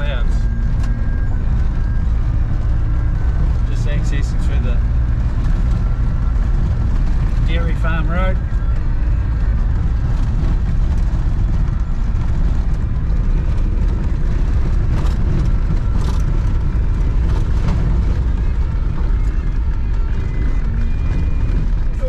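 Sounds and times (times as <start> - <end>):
diesel engine drone: 0.0 - 22.0
road rumble: 0.0 - 22.0.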